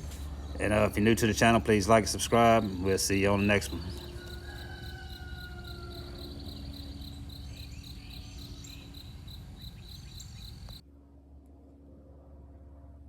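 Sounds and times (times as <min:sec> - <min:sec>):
insects chirping trill: 0:00.0 - 0:10.8
low hum: 0:00.0 - 0:13.0.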